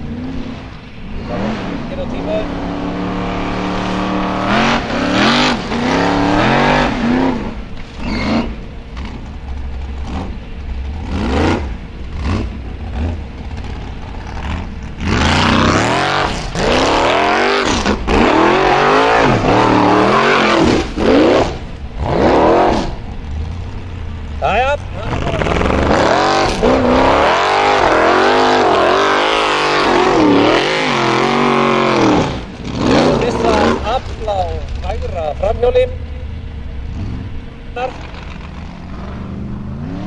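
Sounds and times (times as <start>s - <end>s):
buggy engine revving hard: 0.0s - 40.0s.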